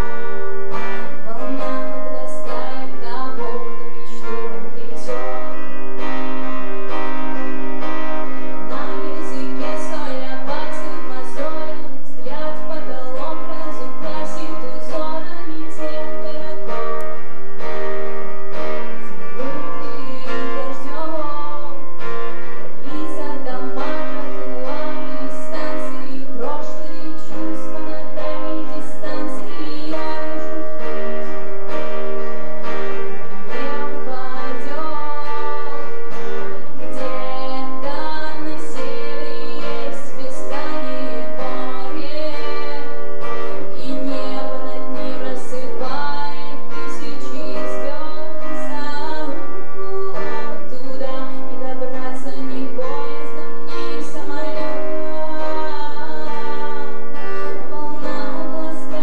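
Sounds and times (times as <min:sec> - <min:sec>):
acoustic guitar: 0:00.0 - 0:59.0
person singing: 0:00.0 - 0:59.0.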